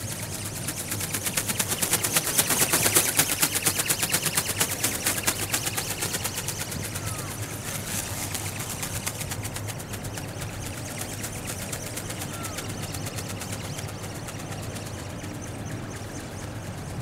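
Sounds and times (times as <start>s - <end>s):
robot bird wings flapping: 0.0s - 17.0s.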